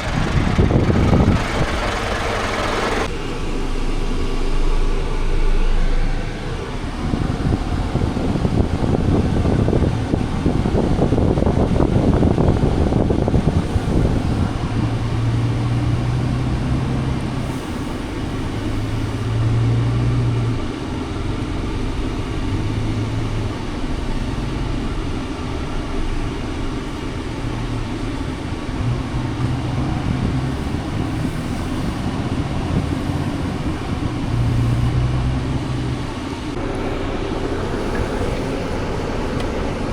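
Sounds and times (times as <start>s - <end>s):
heavy truck engine drone: 0.0s - 39.9s.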